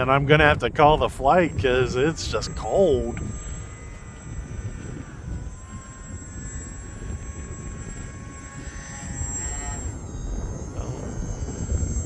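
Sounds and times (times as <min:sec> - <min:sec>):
model plane motor whine: 0:00.0 - 0:12.0
wind rumbling on microphone: 0:00.0 - 0:12.0.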